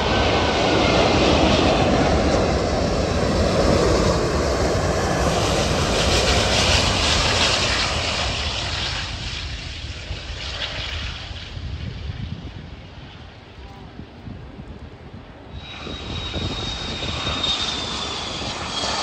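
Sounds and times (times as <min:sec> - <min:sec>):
jet airliner passing: 0:00.0 - 0:19.0.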